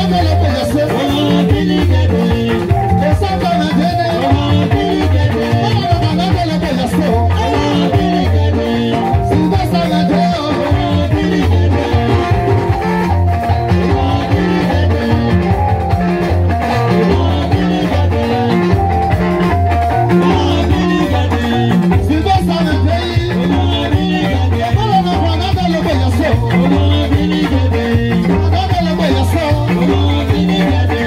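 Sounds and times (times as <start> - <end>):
drum kit: 0.0 - 31.0
electric guitars: 0.0 - 31.0
live band dance groove: 0.0 - 31.0
repeating bass line: 0.0 - 31.0.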